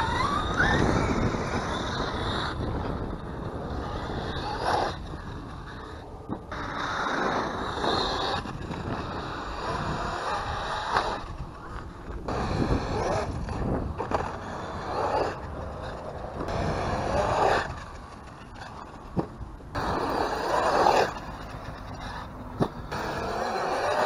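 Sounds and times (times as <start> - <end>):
electric motor whine: 0.0 - 18.9, 19.7 - 24.0.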